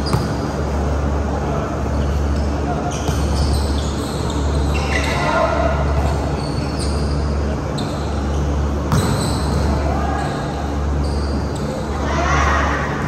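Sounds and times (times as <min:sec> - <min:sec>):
sneakers squeaking on floor: 0:00.0 - 0:00.6, 0:01.8 - 0:12.0
players' voices: 0:00.5 - 0:13.0.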